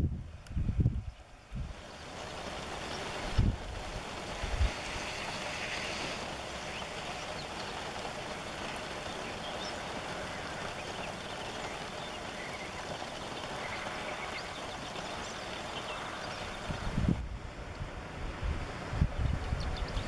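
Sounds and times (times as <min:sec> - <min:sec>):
wind on microphone: 0:00.0 - 0:08.3, 0:10.9 - 0:20.0.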